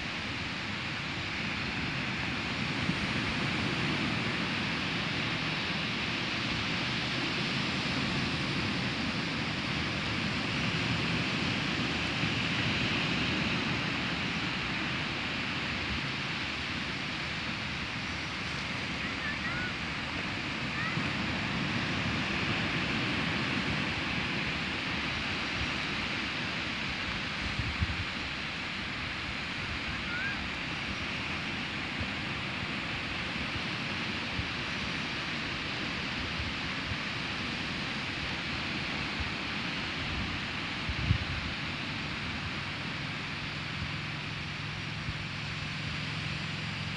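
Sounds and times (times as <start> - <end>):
wind buffeting the microphone: 0.0 - 44.0
waves breaking on sandy beach: 0.0 - 46.9.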